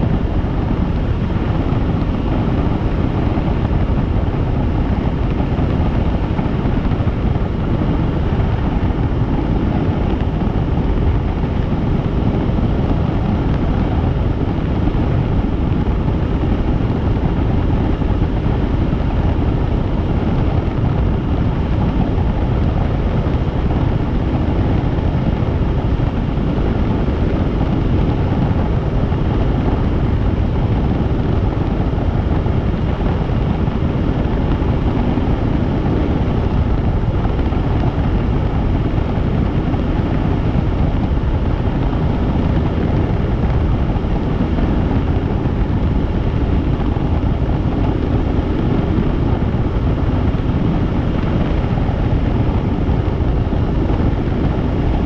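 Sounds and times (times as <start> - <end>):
helicopter rotor and engine noise: 0.0 - 55.0.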